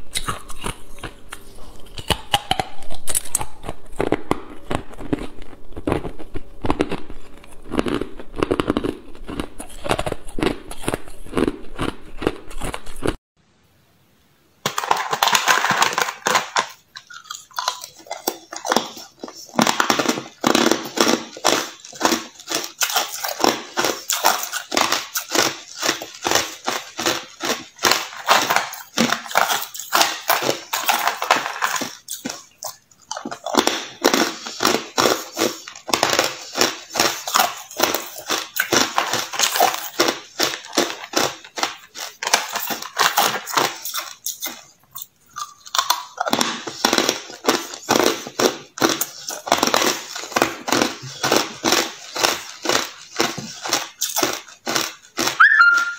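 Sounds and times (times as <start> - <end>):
ice crunched between teeth: 0.0 - 13.2, 14.6 - 55.9.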